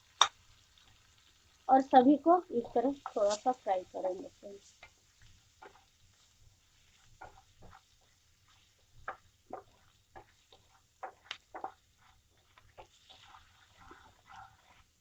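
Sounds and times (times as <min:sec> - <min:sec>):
spices frying in oil: 0:00.0 - 0:15.0
spoon scraping a frying pan: 0:02.6 - 0:15.0.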